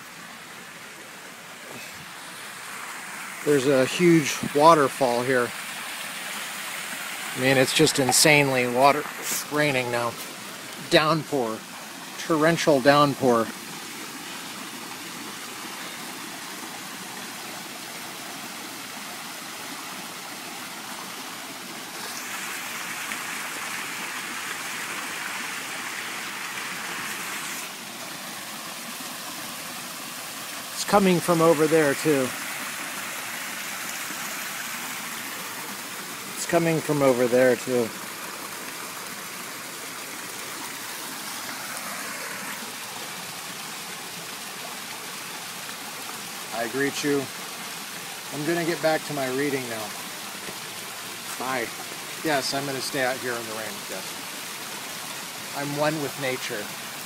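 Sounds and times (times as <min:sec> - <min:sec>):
torrential rain on a pool: 0:00.0 - 0:57.0
waterfall splashing: 0:00.0 - 0:57.0.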